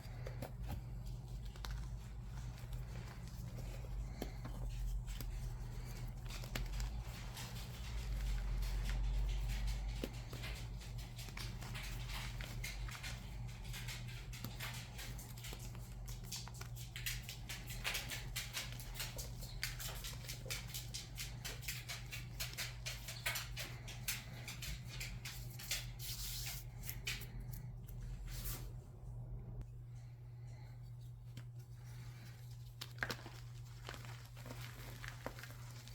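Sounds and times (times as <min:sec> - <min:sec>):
low electrical hum: 0:00.0 - 0:35.9.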